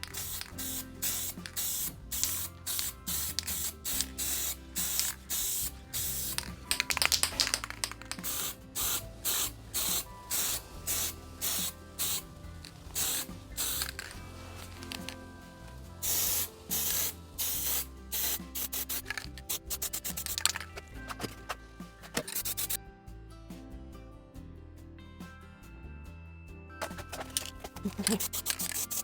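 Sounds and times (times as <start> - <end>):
spray can hissing: 0.0 - 12.3, 12.9 - 15.2, 16.0 - 22.8, 26.8 - 29.0.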